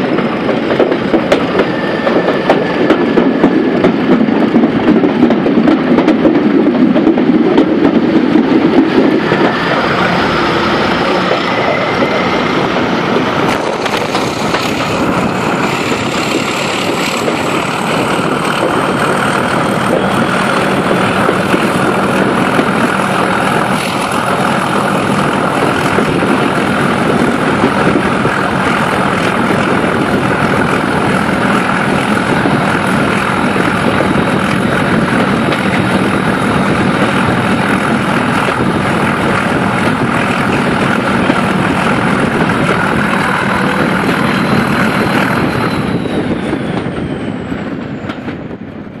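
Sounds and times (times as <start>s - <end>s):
diesel locomotive engine droning: 0.0s - 49.0s
wind rush: 0.0s - 49.0s.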